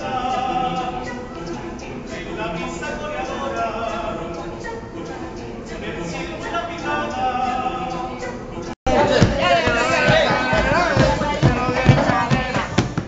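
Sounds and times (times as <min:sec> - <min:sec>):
mixed choir singing a cappella: 0:00.0 - 0:13.0.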